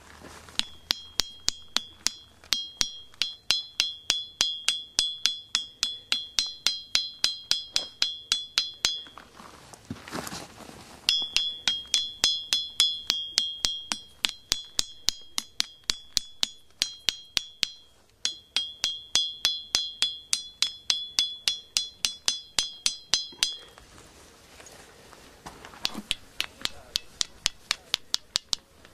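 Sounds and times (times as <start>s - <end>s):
stone block struck ringing: 0.6s - 9.3s, 11.1s - 23.8s, 25.8s - 28.9s.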